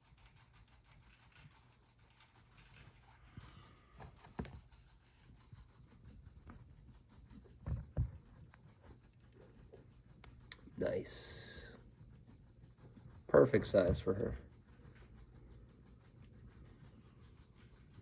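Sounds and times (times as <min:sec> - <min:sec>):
faint scratching and rustling: 0:00.0 - 0:18.0.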